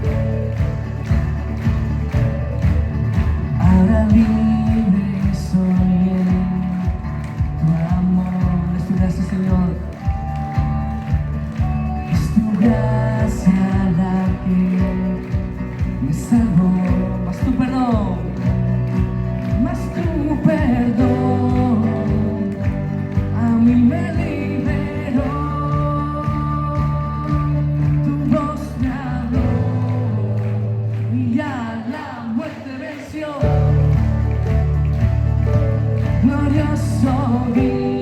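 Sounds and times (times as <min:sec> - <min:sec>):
worship band playing: 0:00.0 - 0:32.3, 0:32.9 - 0:38.0.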